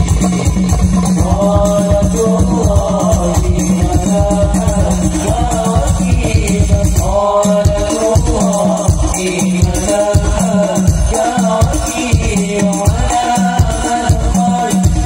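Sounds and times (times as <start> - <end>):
frame drums beating: 0.0 - 15.0
group devotional singing: 0.0 - 15.0.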